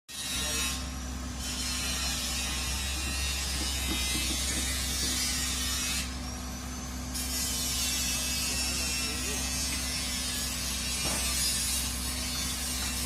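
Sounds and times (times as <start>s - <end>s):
excavator engine running: 0.3s - 13.0s.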